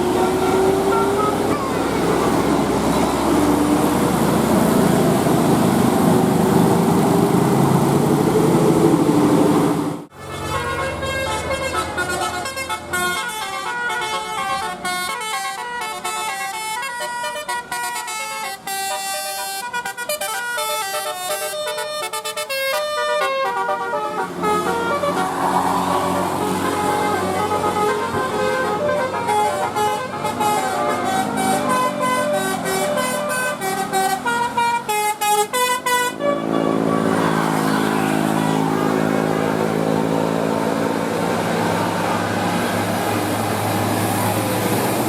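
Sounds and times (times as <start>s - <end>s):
multi-tone bus horn tune: 0.0s - 6.1s, 10.1s - 45.0s
bus engine passing: 0.0s - 45.0s.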